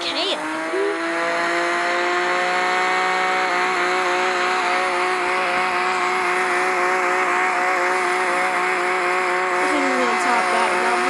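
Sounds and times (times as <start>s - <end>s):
video game car engine at high revs: 0.0s - 11.0s.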